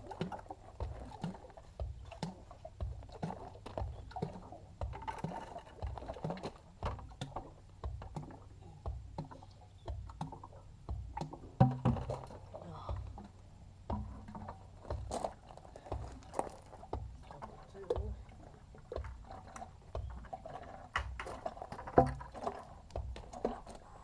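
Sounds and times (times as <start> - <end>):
oil glugging into bucket: 0.0 - 24.0
steady low hum: 0.0 - 24.0.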